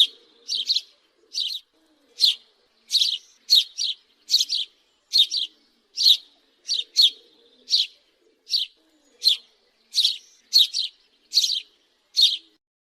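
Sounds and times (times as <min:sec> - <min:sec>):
sparrow chirping: 0:00.0 - 0:12.6.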